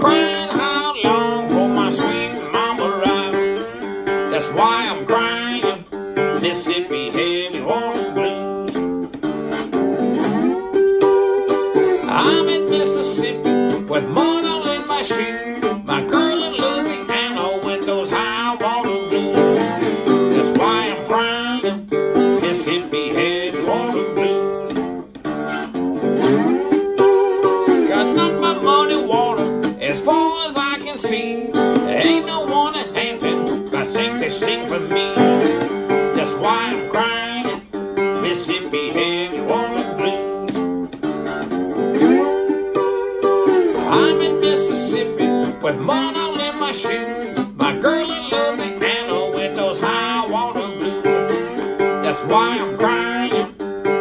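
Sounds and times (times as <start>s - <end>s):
slide acoustic guitar blues: 0.0s - 54.0s.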